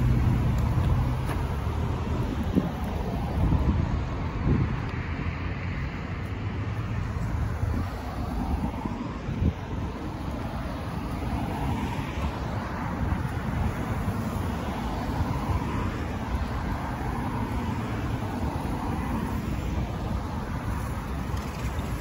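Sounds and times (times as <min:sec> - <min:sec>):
cars driving past: 0:00.0 - 0:22.0.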